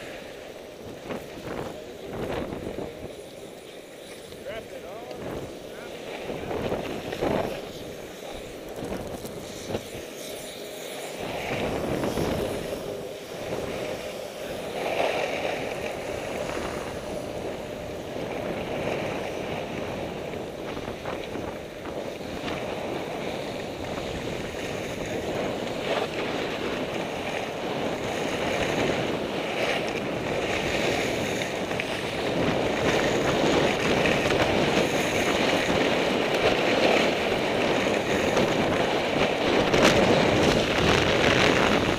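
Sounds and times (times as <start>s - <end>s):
skis scraping on snow: 0.0s - 41.9s
wind rushing over microphone: 0.0s - 41.9s.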